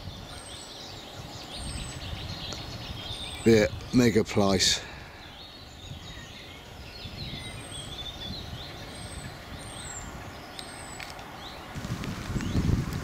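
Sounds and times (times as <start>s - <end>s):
small birds singing: 0.0s - 13.0s
wind rumble on microphone: 0.0s - 13.0s.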